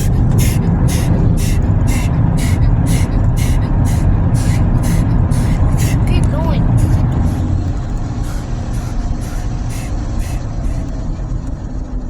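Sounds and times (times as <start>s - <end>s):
car wash dryer blowers roaring: 0.0s - 12.0s.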